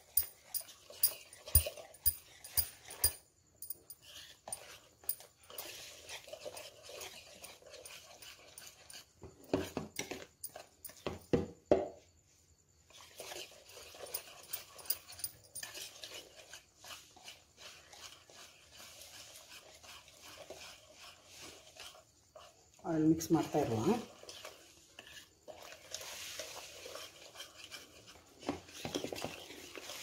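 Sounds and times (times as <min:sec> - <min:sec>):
spatula stirring batter: 0:00.0 - 0:11.4, 0:12.3 - 0:30.0.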